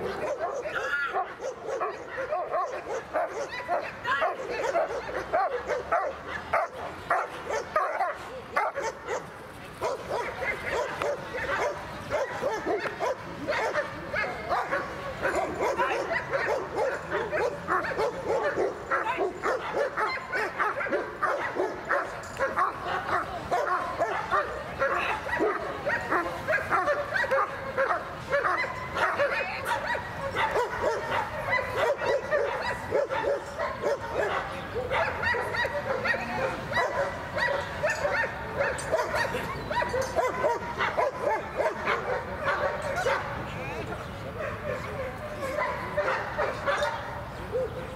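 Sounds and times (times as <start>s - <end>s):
dog barking and yelping: 0.0s - 9.2s, 9.8s - 43.2s, 44.5s - 47.8s.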